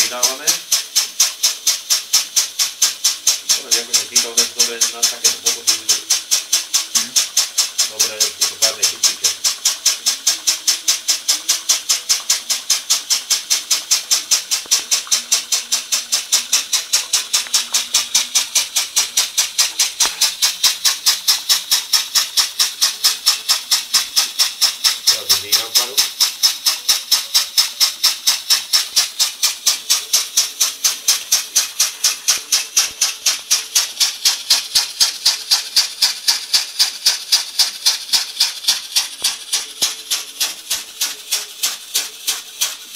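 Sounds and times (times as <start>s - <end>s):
steam engine chuffing: 0.0s - 42.9s
steam hissing: 0.0s - 42.9s.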